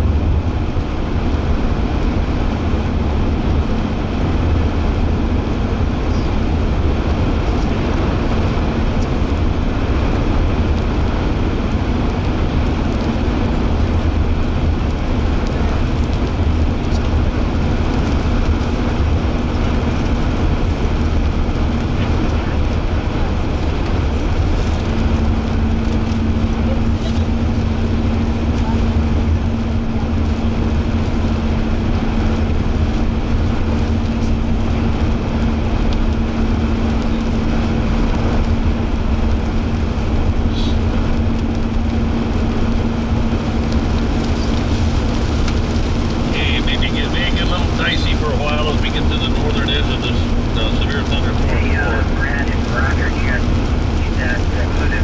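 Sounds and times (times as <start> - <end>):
low rumble of tyres and engine: 0.0 - 55.0.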